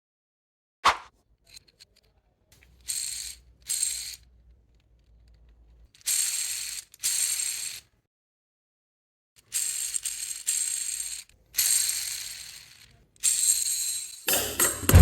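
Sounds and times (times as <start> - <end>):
fidget spinner rattling whirr: 1.4 - 8.0, 9.4 - 15.0.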